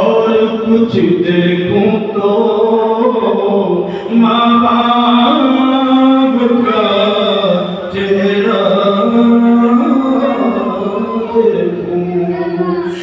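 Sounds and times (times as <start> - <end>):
person singing into a microphone: 0.0 - 13.0.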